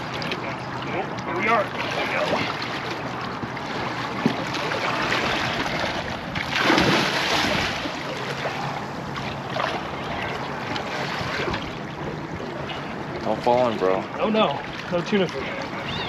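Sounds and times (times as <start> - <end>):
fish thrashing and splashing: 0.0 - 13.1.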